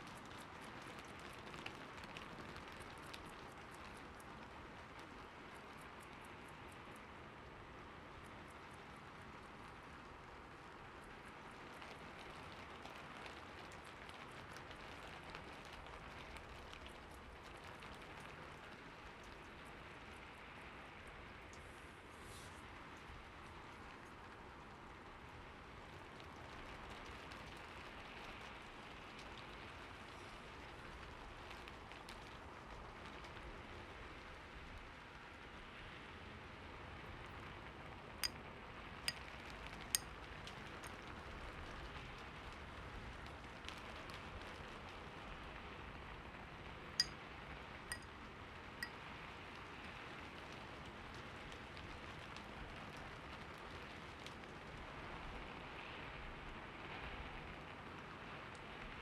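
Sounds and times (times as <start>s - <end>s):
faint rain hiss: 0.0s - 59.0s.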